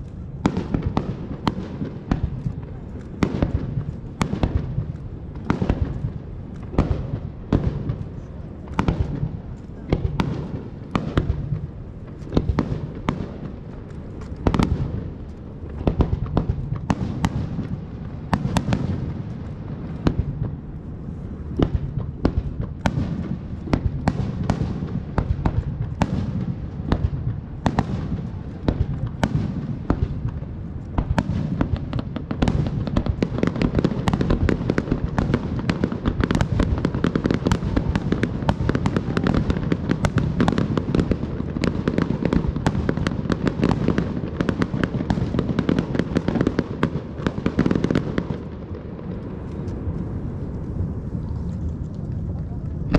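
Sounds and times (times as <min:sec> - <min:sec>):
continuous low rumble: 0:00.0 - 0:52.9
fireworks bursting: 0:00.0 - 0:52.9.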